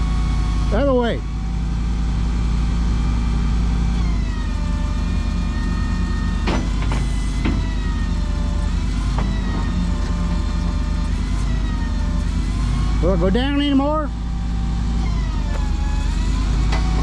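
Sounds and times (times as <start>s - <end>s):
hydraulic whine: 0.0s - 17.0s
tow truck engine running: 0.0s - 17.0s.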